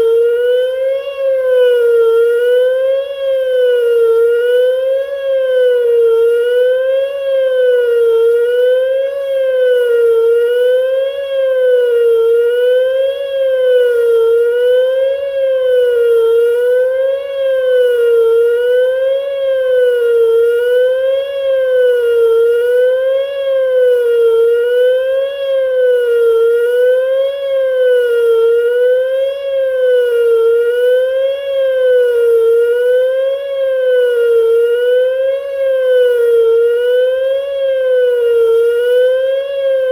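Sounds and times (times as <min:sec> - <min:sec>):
wailing warning siren: 0:00.0 - 0:39.9.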